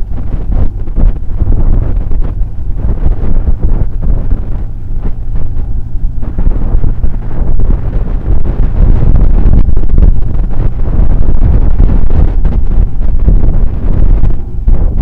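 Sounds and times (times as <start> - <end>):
motorcycle running: 0.0 - 15.0
wind buffeting microphone: 0.0 - 15.0.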